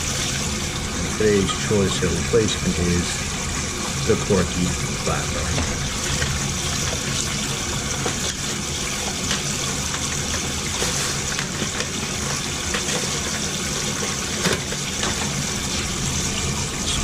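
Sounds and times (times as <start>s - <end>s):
toilet tank filling: 0.0s - 17.0s.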